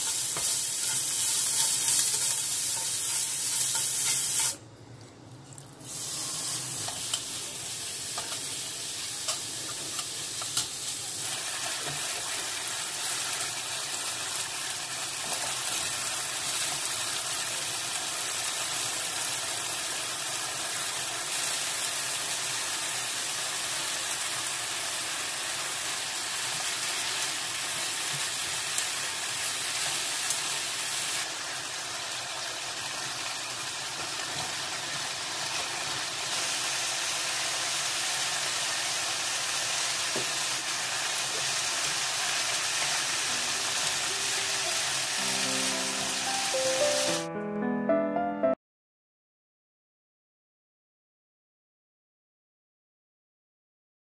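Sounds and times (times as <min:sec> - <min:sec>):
food sizzling in frying pan: 0:00.0 - 0:04.6, 0:05.8 - 0:47.3.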